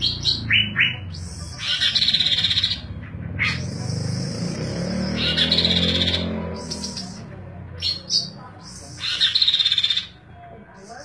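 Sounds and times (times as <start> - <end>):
bird chattering trills: 0.0 - 10.2
bird singing: 0.0 - 11.0.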